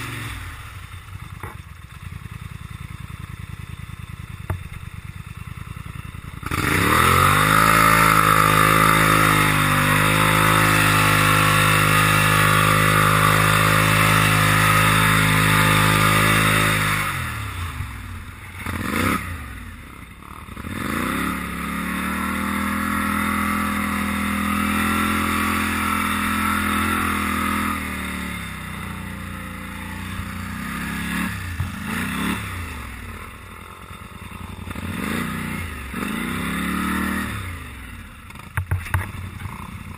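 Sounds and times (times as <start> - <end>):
engine revving: 0.0 - 1.5, 6.3 - 39.9.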